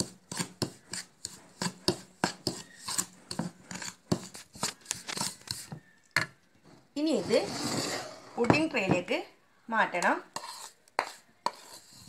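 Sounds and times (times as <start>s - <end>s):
spoon scraping ceramic plate: 0.0s - 6.0s, 7.0s - 8.7s, 10.0s - 12.0s.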